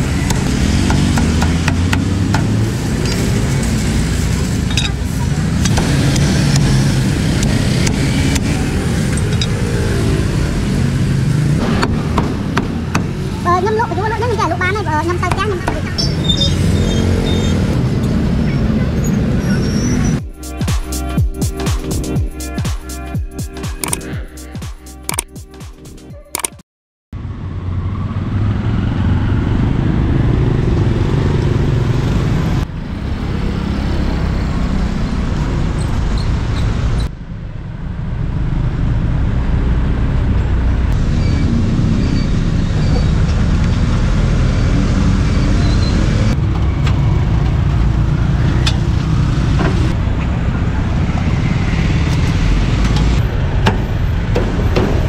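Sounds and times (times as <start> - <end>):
motorbikes and cars passing: 0.0 - 20.2, 27.2 - 55.0.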